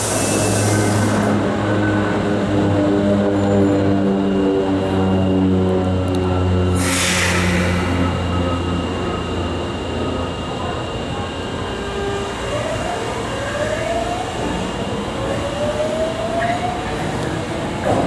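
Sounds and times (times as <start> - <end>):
subway train wheels rumbling: 0.0 - 18.0.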